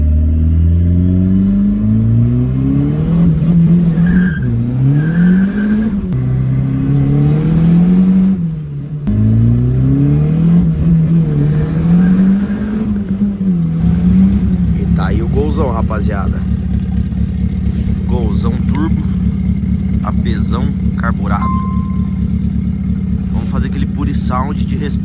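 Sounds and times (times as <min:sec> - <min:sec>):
car engine accelerating through gears: 0:00.0 - 0:25.0.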